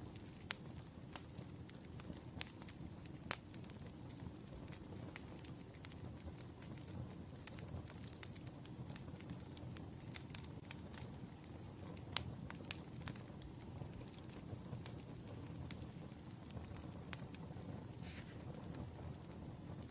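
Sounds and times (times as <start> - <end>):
wood fire crackling: 0.0 - 19.9.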